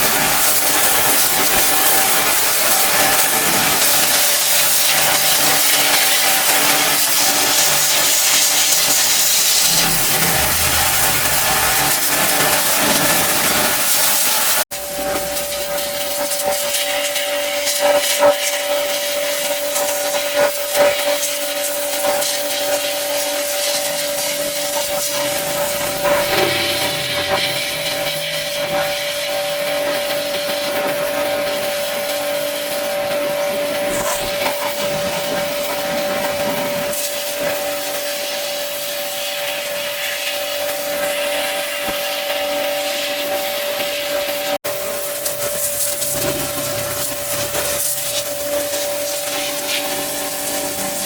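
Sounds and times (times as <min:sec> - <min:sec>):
pressure washer running: 0:00.0 - 0:51.0.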